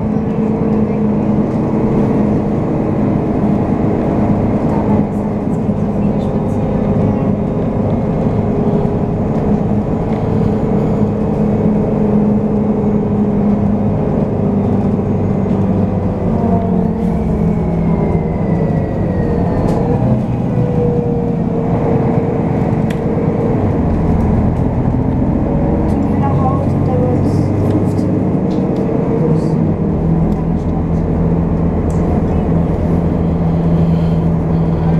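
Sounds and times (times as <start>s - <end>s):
bus engine and road noise: 0.0s - 34.9s.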